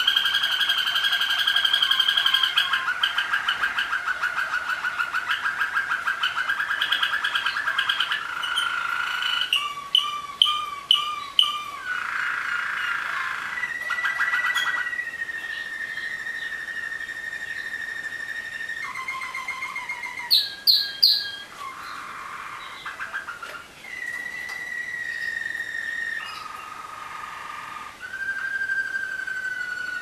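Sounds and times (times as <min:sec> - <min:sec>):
canaries singing: 0:00.0 - 0:30.0.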